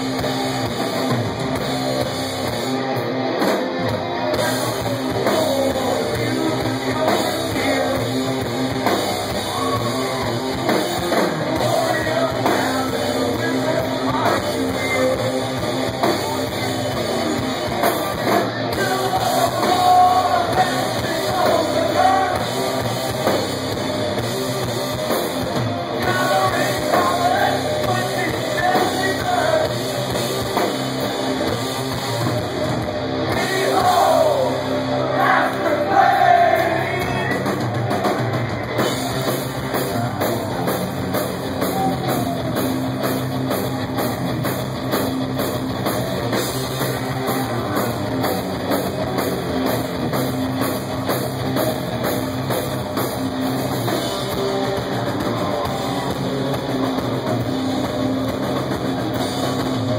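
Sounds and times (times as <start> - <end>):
heavy metal band playing live: 0.0 - 59.9.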